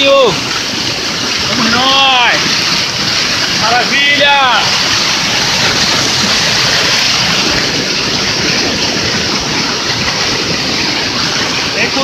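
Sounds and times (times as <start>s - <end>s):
waterfall pouring onto rocks: 0.0s - 12.0s.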